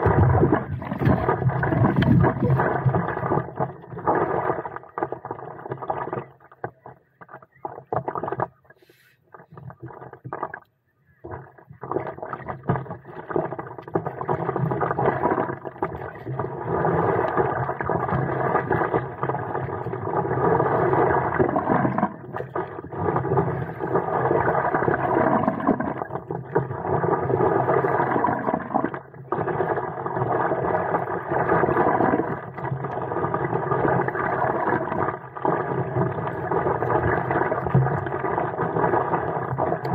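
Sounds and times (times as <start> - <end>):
water noise: 0.0 - 39.9.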